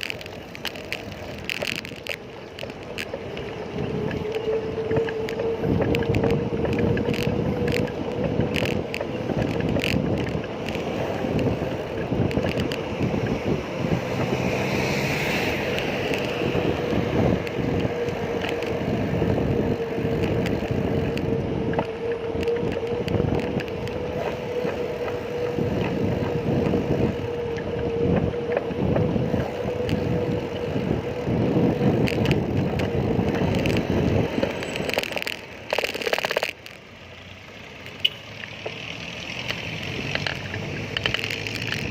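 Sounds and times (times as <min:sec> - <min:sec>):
wind buffeting microphone: 0:00.0 - 0:36.6, 0:39.6 - 0:41.9.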